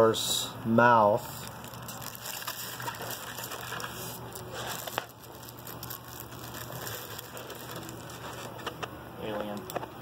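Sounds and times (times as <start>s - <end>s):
plastic wrapping crinkling: 1.2s - 9.8s.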